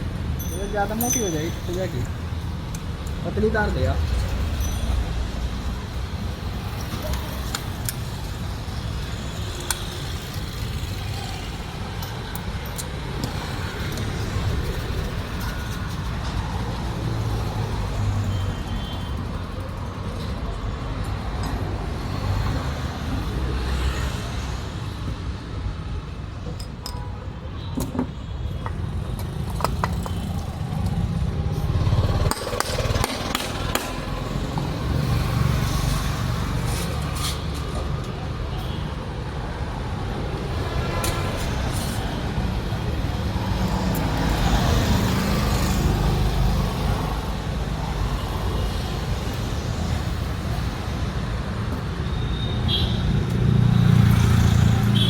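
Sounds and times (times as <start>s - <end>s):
vehicle engines rumbling: 0.0s - 55.0s.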